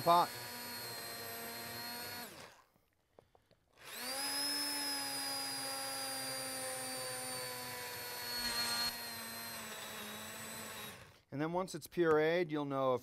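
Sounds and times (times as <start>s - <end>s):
immersion blender pureeing soup: 0.0s - 11.3s.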